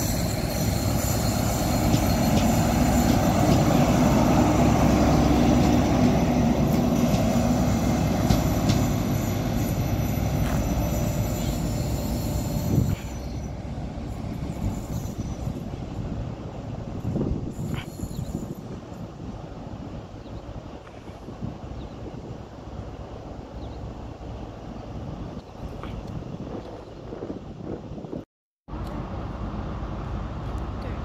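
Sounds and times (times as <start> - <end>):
rail and wheel noise: 0.0 - 31.0
train diesel engine: 0.0 - 31.0.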